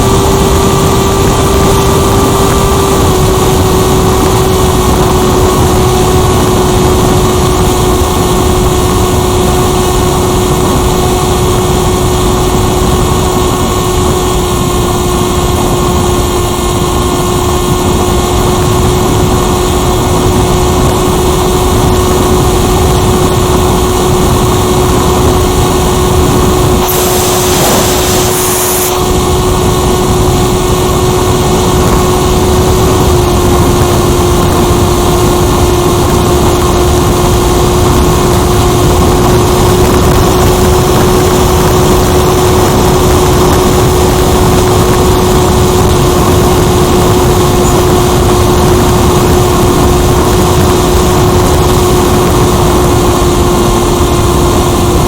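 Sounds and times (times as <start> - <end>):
motor and propeller whine: 0.0 - 55.0
wind rush: 0.0 - 55.0.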